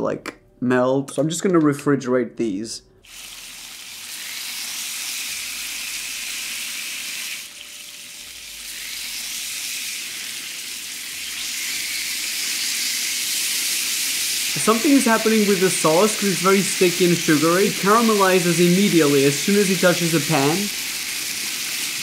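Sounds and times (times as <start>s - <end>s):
chicken sizzling on a griddle: 3.1s - 22.0s.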